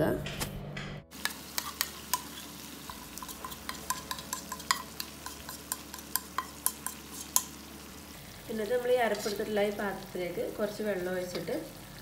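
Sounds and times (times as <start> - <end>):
chicken frying in oil: 1.1 - 12.0.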